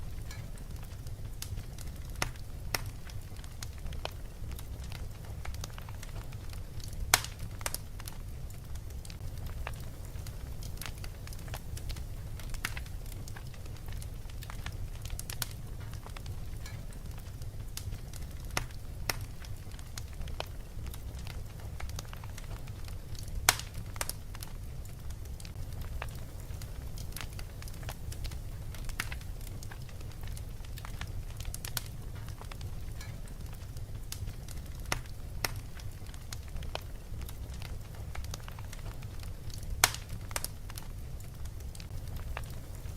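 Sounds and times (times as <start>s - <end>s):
fire crackling and popping: 0.0s - 42.9s
low fire rumble: 0.0s - 42.9s.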